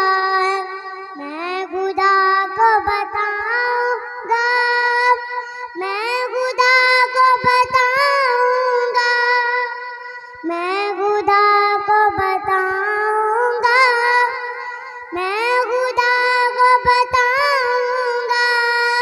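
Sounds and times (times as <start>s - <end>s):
high voice singing: 0.0s - 19.0s.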